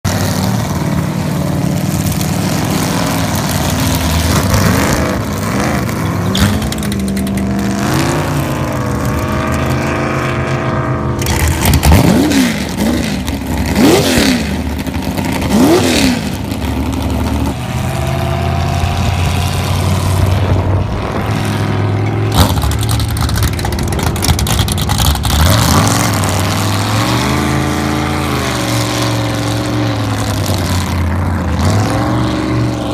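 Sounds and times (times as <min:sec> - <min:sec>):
boat engines revving: 0:00.1 - 0:32.9.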